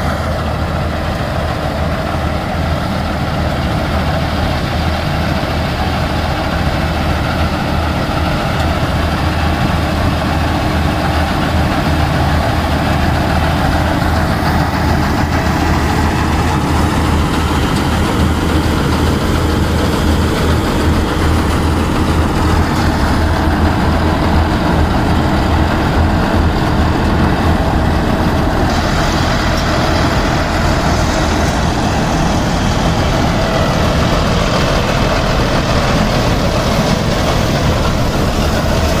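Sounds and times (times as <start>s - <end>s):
harvester machinery running: 0.0s - 39.0s
tractor diesel engine droning: 0.0s - 39.0s.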